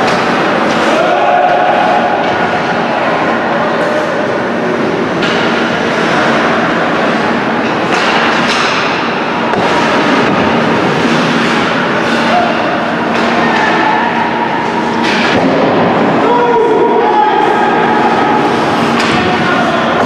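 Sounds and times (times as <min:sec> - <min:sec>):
hockey sticks and puck clacking: 0:00.0 - 0:02.6, 0:05.1 - 0:16.3, 0:17.0 - 0:20.0
echoing arena noise: 0:00.0 - 0:20.0.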